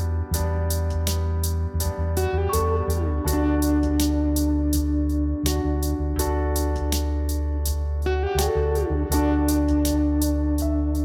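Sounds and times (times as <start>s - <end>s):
guitar music over a beat: 0.0s - 11.0s.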